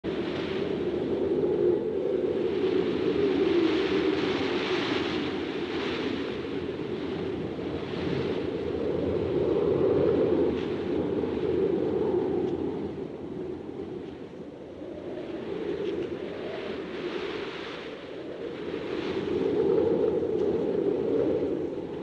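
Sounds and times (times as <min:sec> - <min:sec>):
strong gusting wind: 0:00.0 - 0:22.0.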